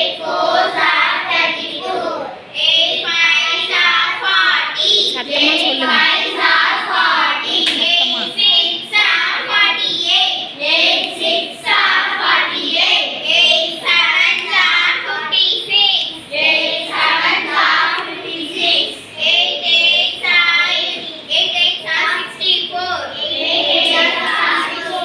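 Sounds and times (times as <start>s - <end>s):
children chanting: 0.0s - 25.0s.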